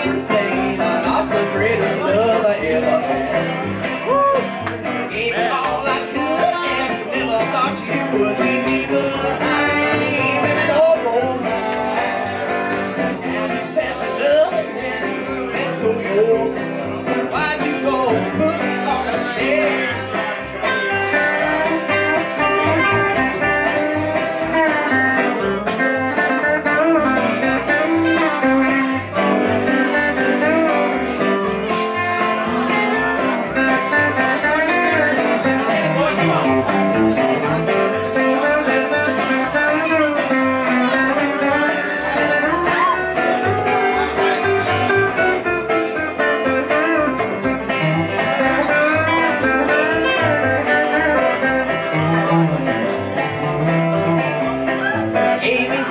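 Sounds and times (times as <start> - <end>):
acoustic guitar: 0.0 - 55.9
electric guitar: 0.0 - 55.9
person singing: 0.0 - 55.9
upright bass: 0.0 - 55.9.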